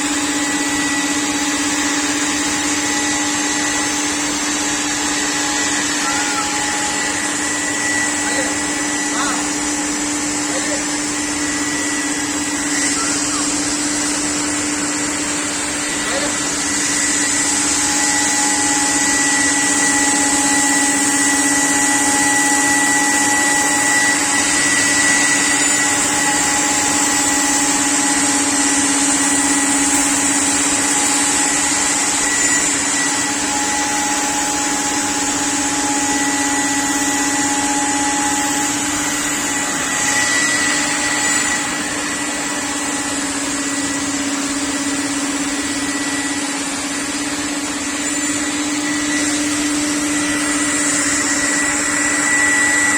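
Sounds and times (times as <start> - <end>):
router hum and whine: 0.0 - 52.9.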